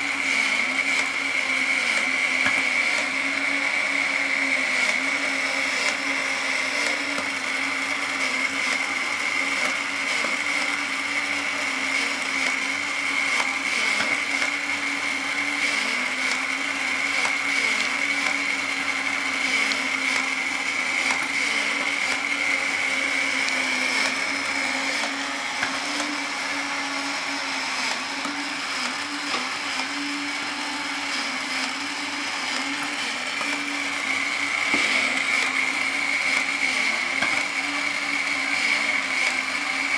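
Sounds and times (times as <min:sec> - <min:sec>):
toy motors whirring: 0:00.0 - 0:39.9.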